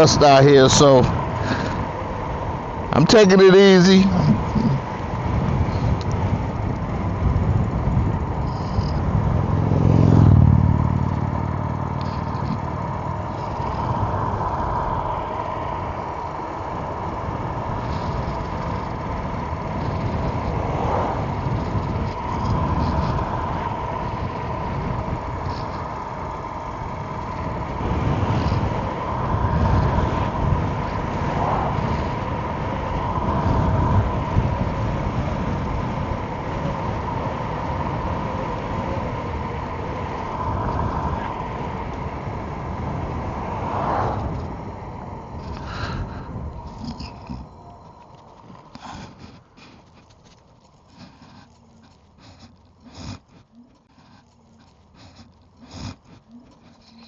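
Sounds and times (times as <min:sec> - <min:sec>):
wind buffeting microphone: 0:00.0 - 0:53.2
road rumble: 0:00.0 - 0:57.0
steady high whine: 0:00.0 - 0:57.0.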